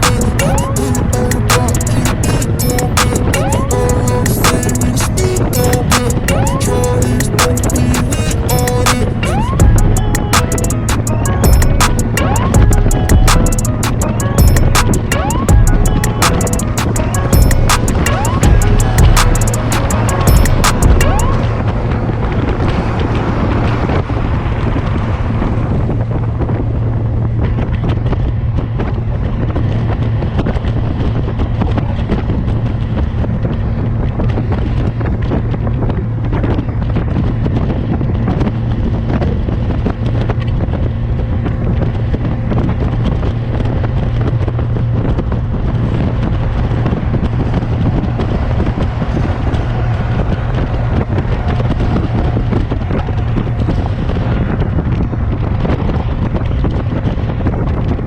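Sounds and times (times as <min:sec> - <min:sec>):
motorcycle engine droning: 0:00.0 - 0:58.0
wind buffeting microphone: 0:00.0 - 0:58.0.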